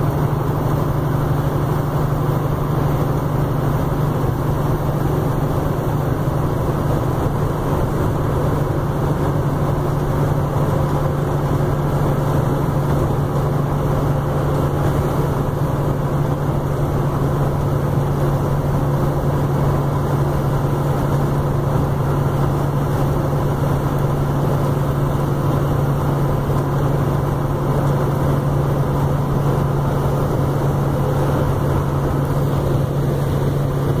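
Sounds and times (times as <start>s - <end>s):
constant low hum: 0.0s - 34.0s
vehicle engine and road drone: 0.0s - 34.0s.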